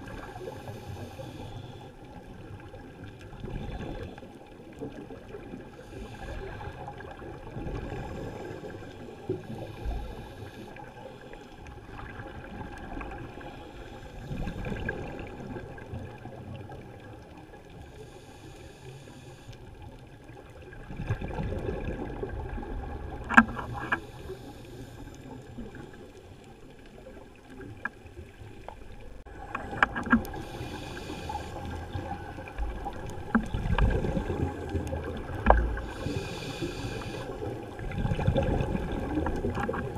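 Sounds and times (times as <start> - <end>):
regulator bubbles rumbling underwater: 0.0 - 39.9.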